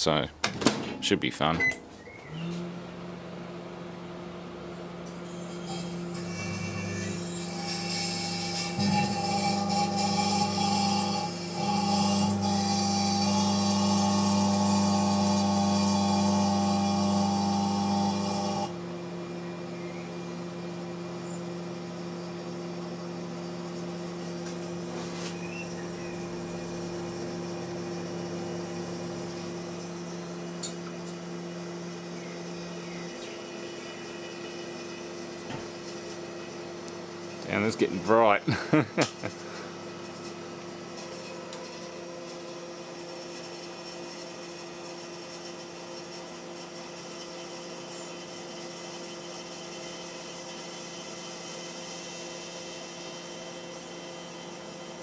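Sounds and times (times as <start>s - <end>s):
microwave oven buzzy hum: 0.0s - 55.0s.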